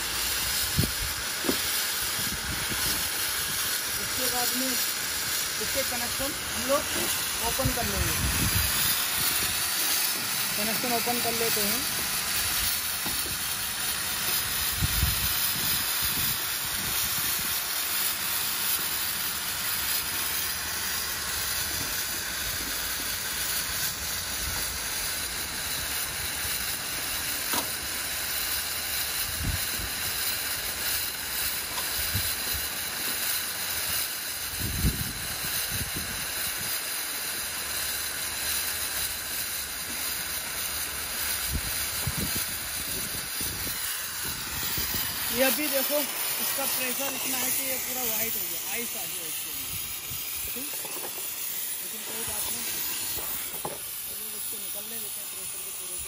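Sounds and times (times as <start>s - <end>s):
gas hissing from a pipe: 0.0s - 56.0s.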